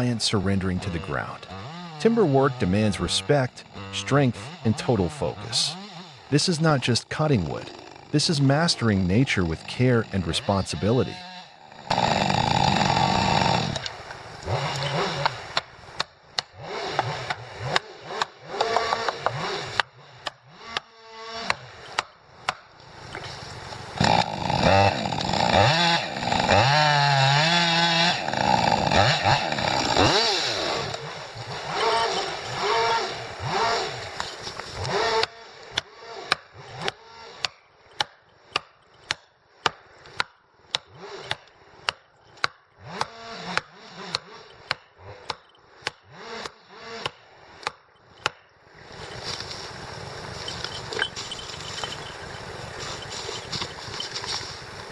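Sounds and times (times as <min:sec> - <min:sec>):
chainsaw revving: 0:00.0 - 0:22.0, 0:22.8 - 0:37.5, 0:40.8 - 0:47.6, 0:48.7 - 0:54.9.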